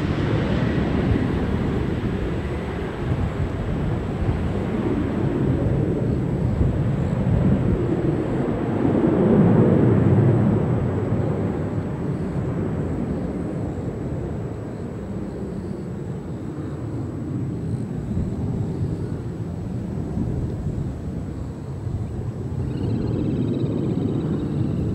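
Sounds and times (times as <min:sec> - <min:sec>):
jet engines rumbling at takeoff: 0:00.0 - 0:24.9.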